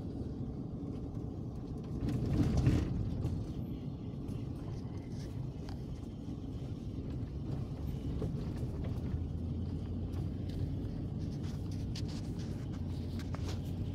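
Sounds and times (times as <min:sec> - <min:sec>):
engine and tyre rumble: 0:00.0 - 0:13.9.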